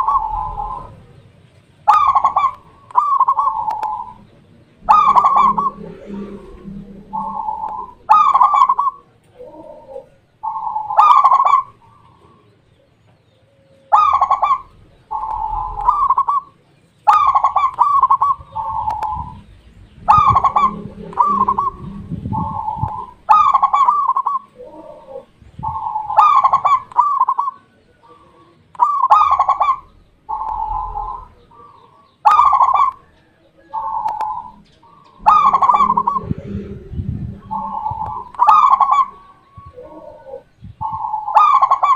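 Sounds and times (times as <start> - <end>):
dove cooing: 0.0 - 1.3, 1.9 - 12.7, 13.4 - 41.9.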